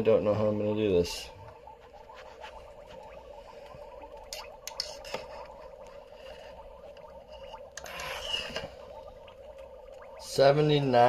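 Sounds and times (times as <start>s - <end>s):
aquarium water gurgling: 0.0s - 11.0s.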